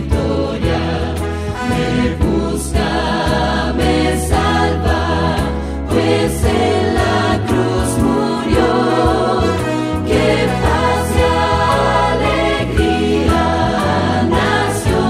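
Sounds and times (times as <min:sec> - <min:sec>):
choir singing with instrumental backing: 0:00.0 - 0:15.0.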